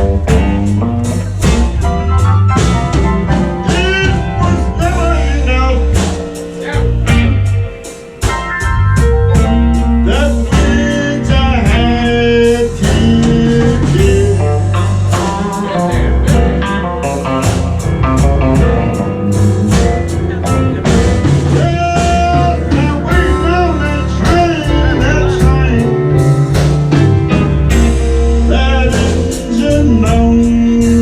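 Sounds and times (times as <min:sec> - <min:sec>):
bass: 0:00.0 - 0:31.0
blues band playing: 0:00.0 - 0:31.0
drums beating: 0:00.0 - 0:31.0.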